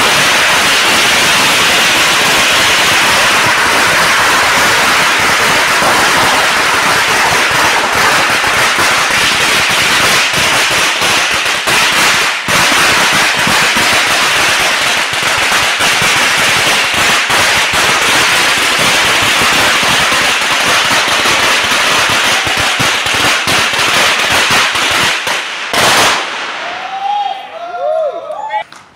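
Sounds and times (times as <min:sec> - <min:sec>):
firecrackers exploding: 0:00.0 - 0:27.9.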